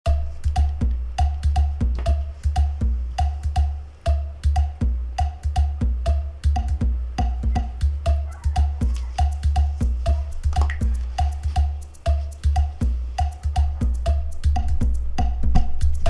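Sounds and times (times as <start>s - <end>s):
background music with steady beat: 0.0s - 16.0s
low bass notes: 0.0s - 16.0s.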